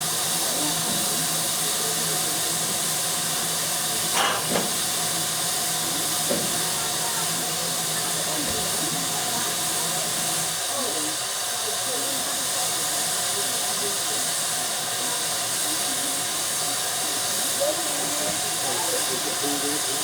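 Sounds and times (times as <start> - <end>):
hiss of escaping steam: 0.0 - 20.0.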